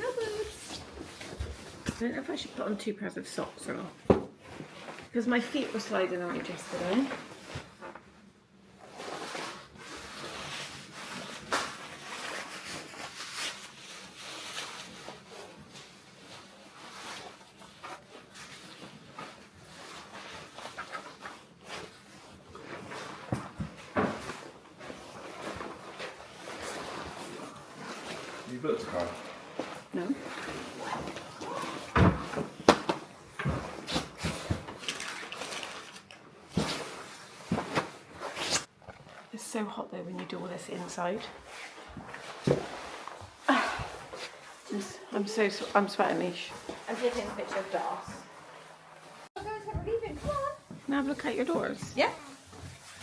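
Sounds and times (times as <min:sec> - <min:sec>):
clothing rustling: 0:00.0 - 0:39.7, 0:40.3 - 0:53.0.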